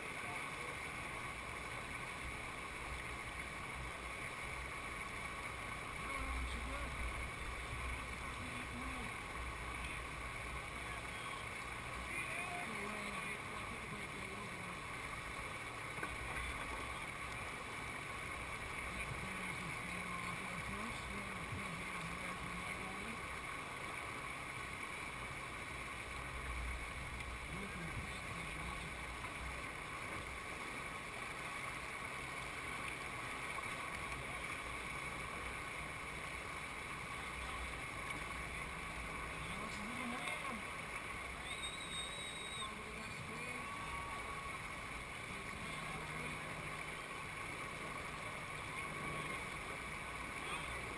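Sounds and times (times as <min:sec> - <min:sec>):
whitewater rushing over rocks: 0:00.0 - 0:50.9.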